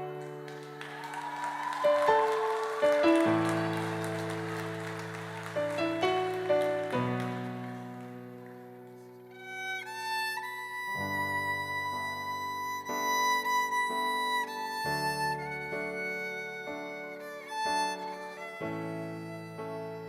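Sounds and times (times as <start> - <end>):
violin melody: 0.0 - 20.0.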